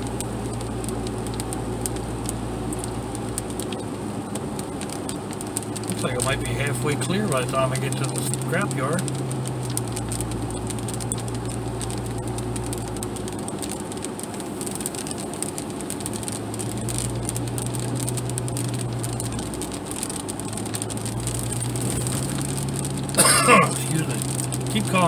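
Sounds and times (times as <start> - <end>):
rain ticking on windshield: 0.0 - 25.0
vehicle engine and tyres on wet road: 0.0 - 25.0.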